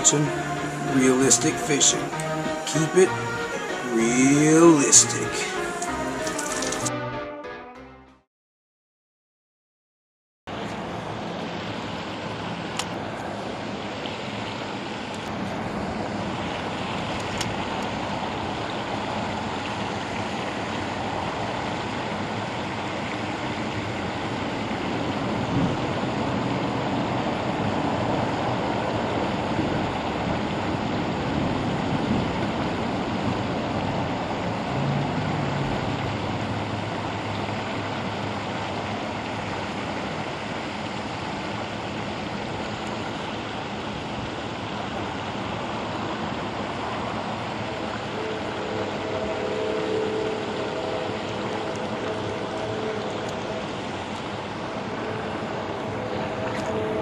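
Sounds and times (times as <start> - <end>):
water pouring over spillway: 0.0 - 6.9, 10.5 - 57.0.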